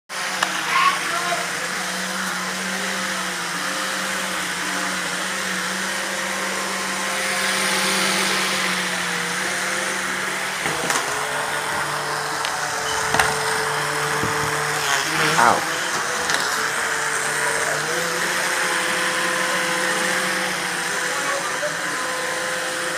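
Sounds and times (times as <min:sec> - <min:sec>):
small electric fan motors whirring: 0:00.1 - 0:22.9.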